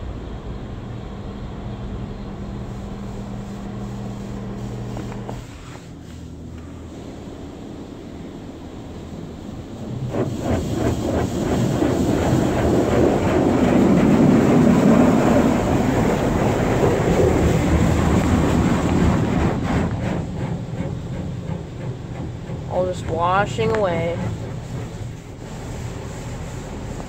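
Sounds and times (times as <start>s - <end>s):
water jets spraying car: 0.0s - 27.0s.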